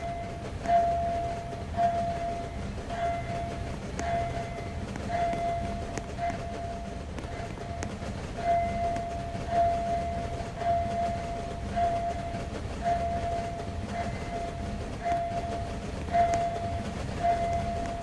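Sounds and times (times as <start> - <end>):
level-crossing warning signal ringing: 0.0 - 18.0.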